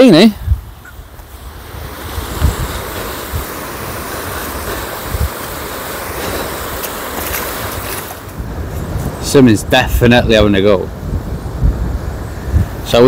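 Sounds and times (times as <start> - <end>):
wind and rain hiss: 0.0 - 13.0
wind buffeting microphone: 0.2 - 13.0.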